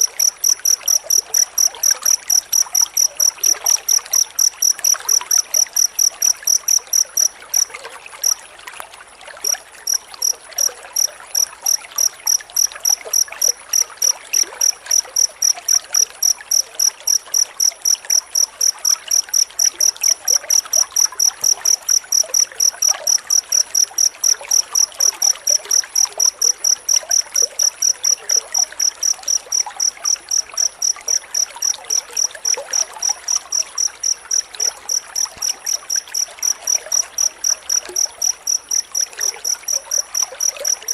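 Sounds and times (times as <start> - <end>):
cricket chirping: 0.0 - 40.9
faint steady hiss: 0.0 - 40.9.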